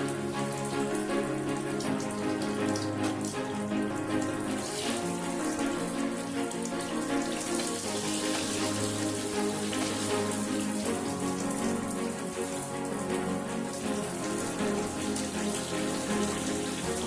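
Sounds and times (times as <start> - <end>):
running water hissing: 0.0 - 17.0
slow sustained background music: 0.0 - 17.0.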